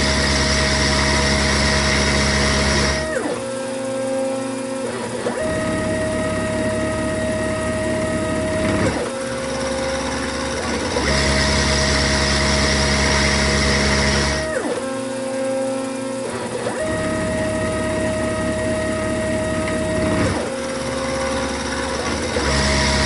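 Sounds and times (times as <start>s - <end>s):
milling machine whine: 0.0s - 23.0s.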